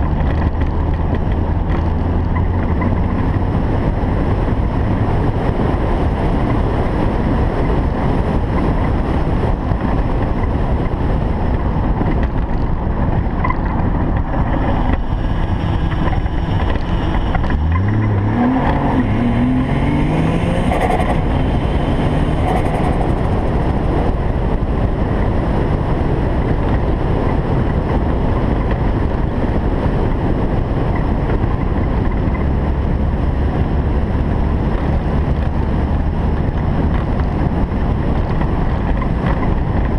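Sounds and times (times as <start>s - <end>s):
car engine accelerating: 0.0s - 39.9s
wind rushing on microphone: 0.0s - 39.9s.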